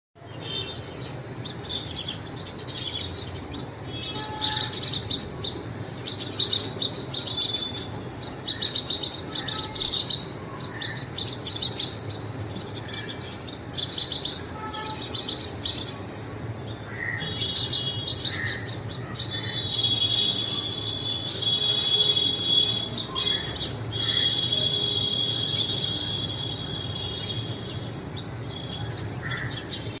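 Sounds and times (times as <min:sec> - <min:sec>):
birds chirping: 0:00.2 - 0:30.0
high bird trill: 0:00.4 - 0:16.0, 0:16.8 - 0:30.0.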